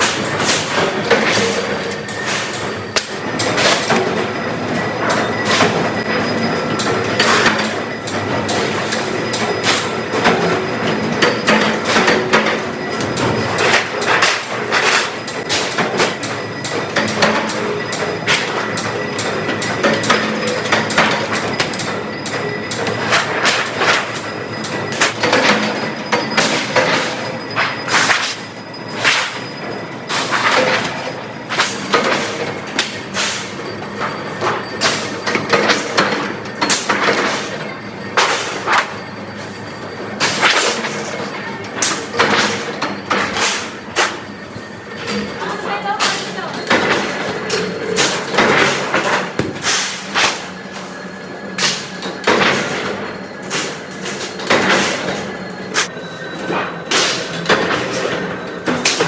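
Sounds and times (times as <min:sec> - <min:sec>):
machine hum with high whine: 0:00.0 - 0:59.0.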